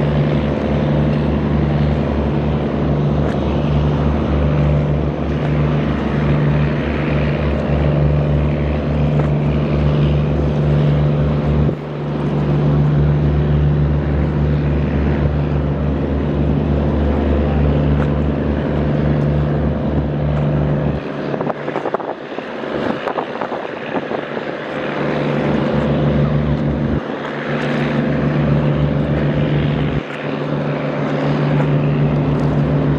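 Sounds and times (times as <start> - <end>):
boat engine drone: 0.0 - 32.9
water rushing: 0.0 - 32.9
wind noise: 0.0 - 32.9.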